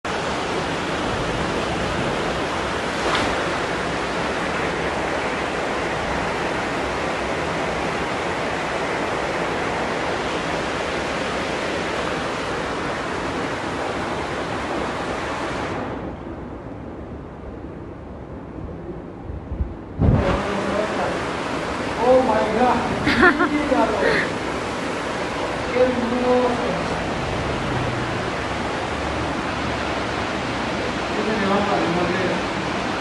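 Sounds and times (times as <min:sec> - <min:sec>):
flowing river water: 0:00.1 - 0:17.0, 0:19.9 - 0:33.0.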